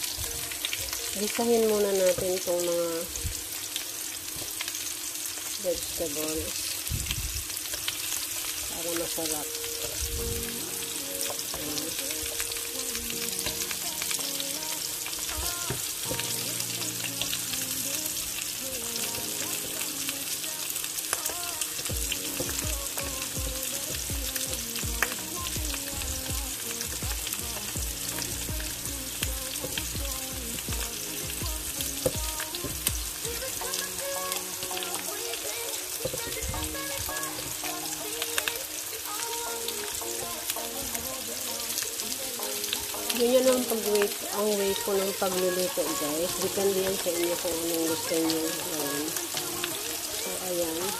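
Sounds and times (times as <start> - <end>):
vegetables sizzling in a frying pan: 0.0 - 50.9.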